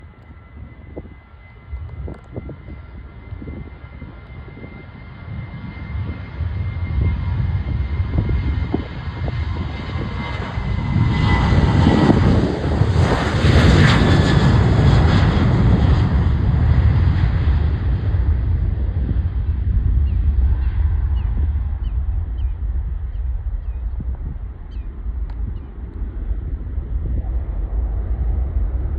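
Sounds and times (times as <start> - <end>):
jet airliner passing: 0.0 - 28.9.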